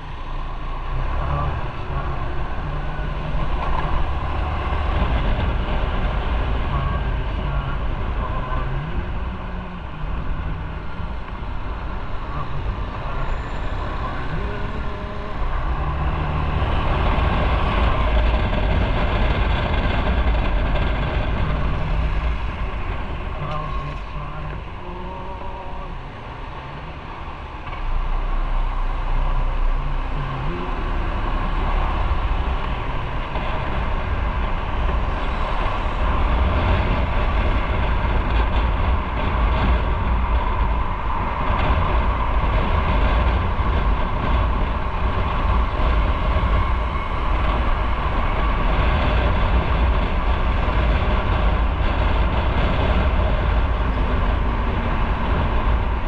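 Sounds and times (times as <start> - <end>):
motorcycle engine and road noise: 0.0 - 56.0.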